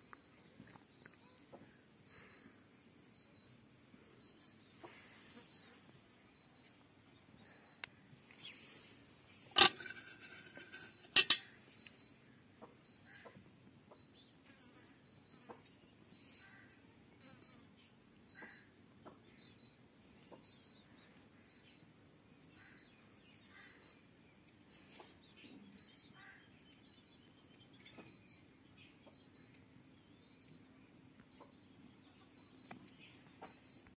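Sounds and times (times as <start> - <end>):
faint bird chirps: 0.0 - 34.0.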